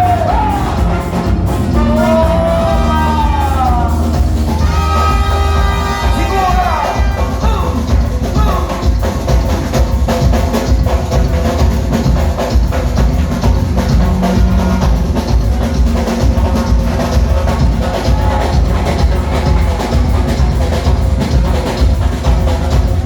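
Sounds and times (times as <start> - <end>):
carnival music with loud drums: 0.0 - 23.0
heavy bass beat: 0.0 - 23.0.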